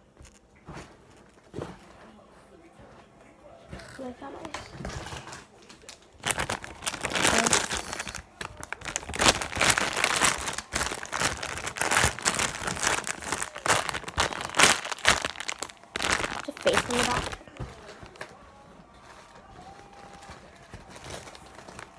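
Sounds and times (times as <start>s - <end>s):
plastic bags crinkling: 4.0s - 21.9s.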